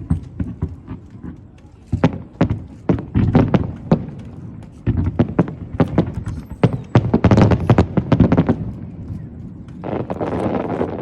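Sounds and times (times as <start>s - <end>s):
fireworks bursting with sharp bangs: 0.0s - 11.0s.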